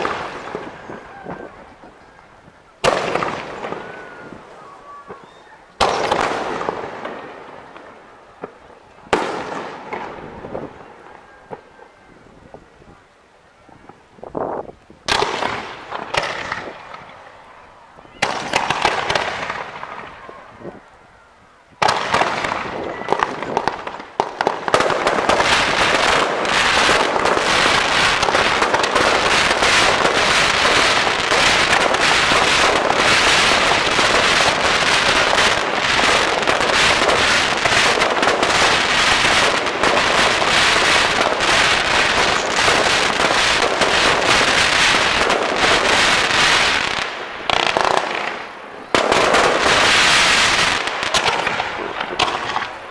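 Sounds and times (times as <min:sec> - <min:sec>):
fireworks launching and bursting: 0:00.0 - 0:11.7, 0:15.0 - 0:17.4, 0:18.2 - 0:20.7, 0:21.8 - 0:52.9.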